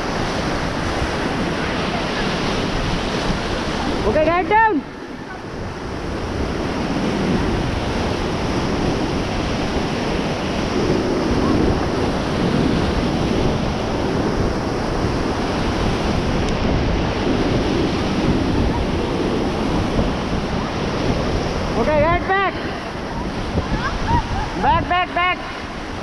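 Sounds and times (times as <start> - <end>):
river whitewater rushing: 0.0 - 26.0
wind buffeting microphone: 0.0 - 26.0.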